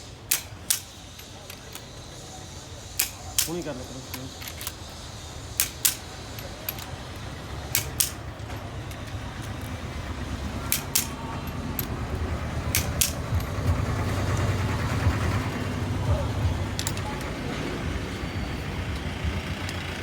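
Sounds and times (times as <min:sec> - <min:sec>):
torque wrench clicking: 0:00.0 - 0:17.2
steady low hum: 0:00.0 - 0:20.0.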